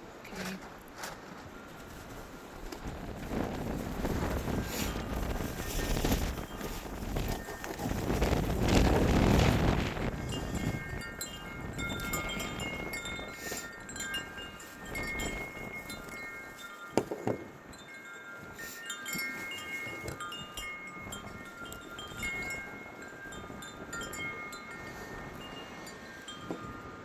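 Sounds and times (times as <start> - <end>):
gusty wind: 0.0 - 27.0
wind chimes ringing: 3.6 - 27.0.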